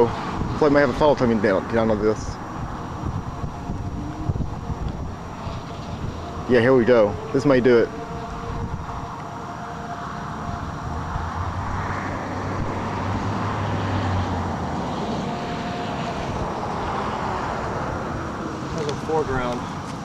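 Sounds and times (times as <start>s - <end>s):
low vehicle hum: 0.0s - 20.0s
traffic: 0.0s - 20.0s
wind: 0.0s - 20.0s.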